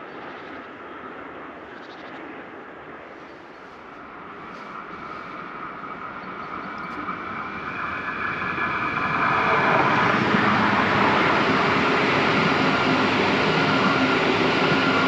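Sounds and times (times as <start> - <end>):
train approaching: 0.0 - 15.0.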